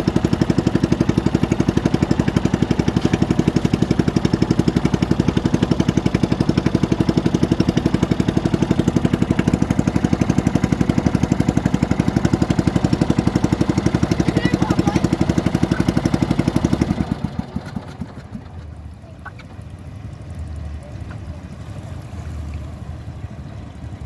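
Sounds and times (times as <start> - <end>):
small engine running: 0.0 - 21.3.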